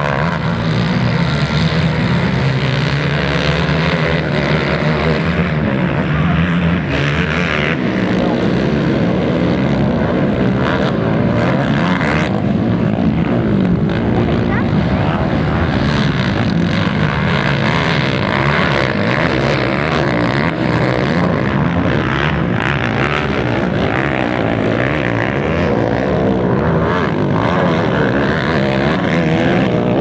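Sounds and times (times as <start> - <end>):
quad engines racing: 0.0 - 30.0.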